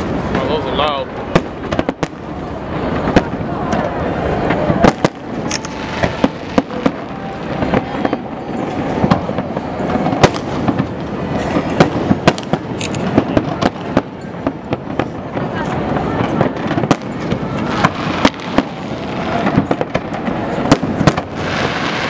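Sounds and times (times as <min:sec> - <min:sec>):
steady wash of fireworks noise: 0:00.0 - 0:22.0
firework shells bursting: 0:02.9 - 0:15.2, 0:16.2 - 0:22.0.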